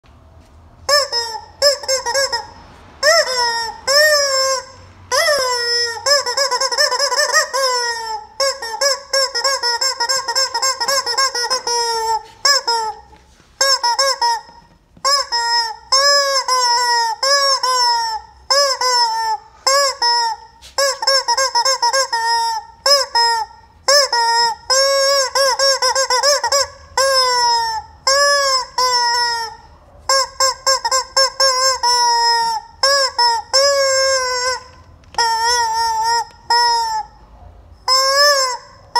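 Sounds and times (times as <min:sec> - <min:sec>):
rubber chicken toy squawking: 0:00.8 - 0:37.2, 0:37.8 - 0:38.9.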